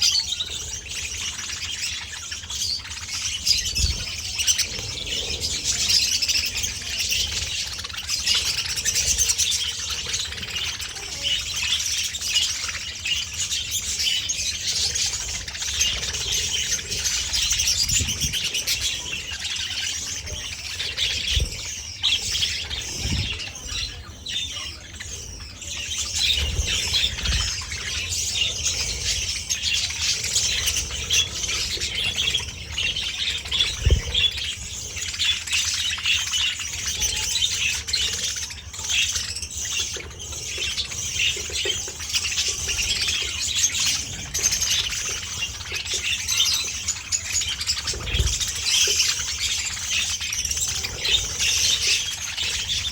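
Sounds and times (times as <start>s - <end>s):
budgerigars chattering and chirping: 0.0s - 52.9s.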